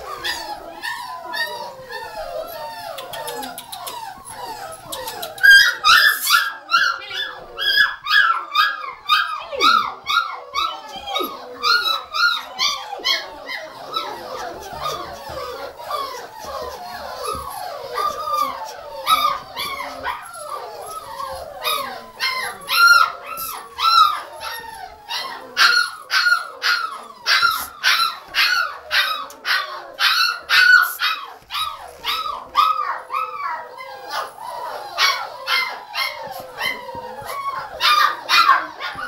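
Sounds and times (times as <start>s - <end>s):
puppy barking and yipping: 0.0s - 39.0s.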